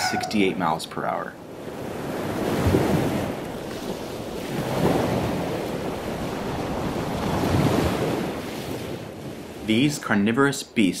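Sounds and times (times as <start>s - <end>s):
rushing water: 0.0s - 10.9s.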